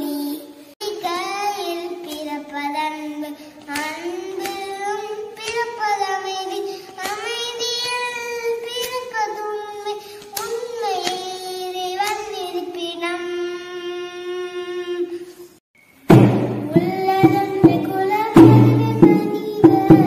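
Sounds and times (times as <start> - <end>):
boy singing: 0.0 - 15.5, 16.6 - 20.0.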